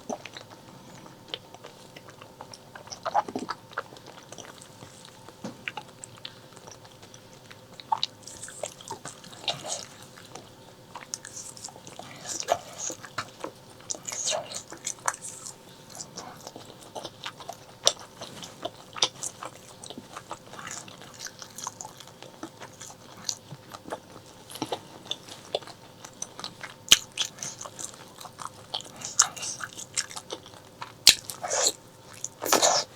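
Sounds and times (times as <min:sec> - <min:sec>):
chewing and biting food: 0:00.0 - 0:32.9.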